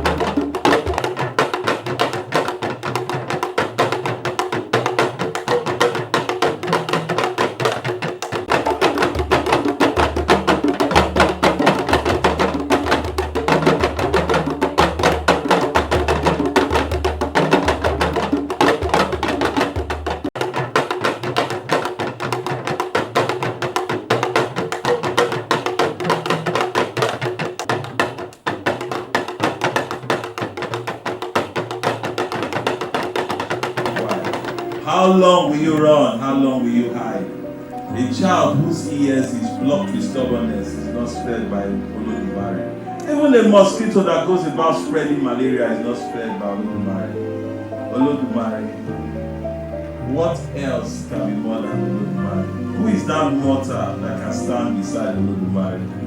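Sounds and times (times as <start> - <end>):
wood-block percussion music: 0.0 - 56.0.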